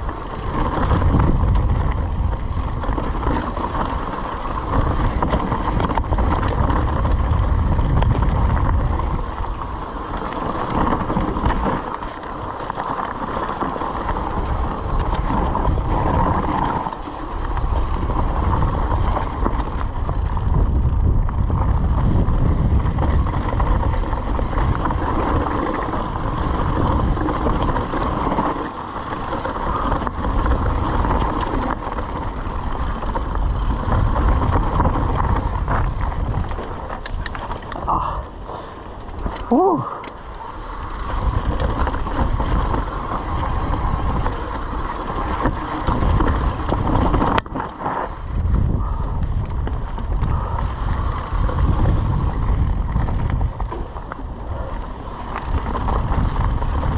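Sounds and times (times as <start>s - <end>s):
bike chain and frame rattling: 0.0s - 56.9s
bike tyres crunching over stones: 0.0s - 56.9s
wind rumble on microphone: 0.0s - 56.9s.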